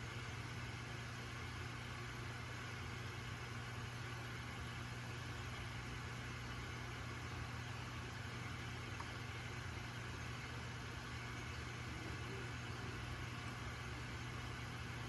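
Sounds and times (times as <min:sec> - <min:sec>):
aquarium equipment humming: 0:00.0 - 0:15.0.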